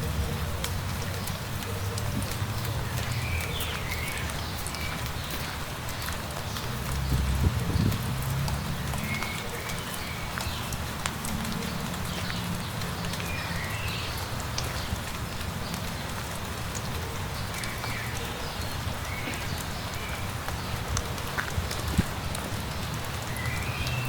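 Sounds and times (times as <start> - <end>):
light rain falling: 0.0 - 24.0
raindrops ticking: 0.0 - 24.0
small birds chirping: 0.4 - 24.0.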